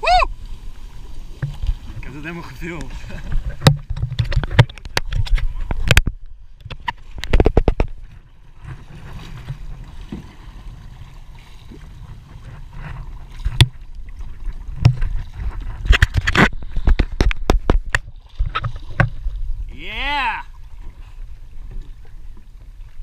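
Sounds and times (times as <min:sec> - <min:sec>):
paddle splashing and knocks: 0:00.4 - 0:23.0.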